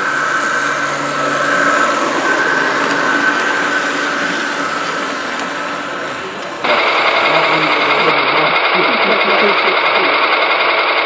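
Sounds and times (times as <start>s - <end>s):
model train whine and rolling hiss: 0.0s - 11.0s.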